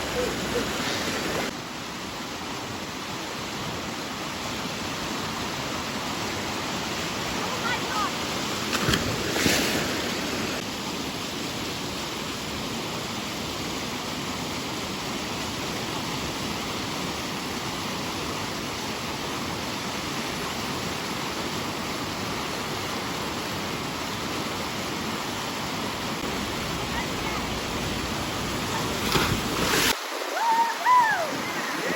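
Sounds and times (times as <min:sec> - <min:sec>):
creek water rushing over rock: 0:00.0 - 0:31.9.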